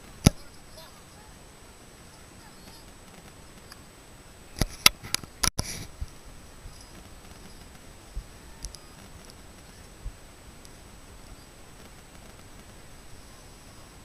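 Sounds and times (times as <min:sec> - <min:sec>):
faint high whine: 0:00.0 - 0:14.0
faint outdoor background: 0:00.0 - 0:14.0.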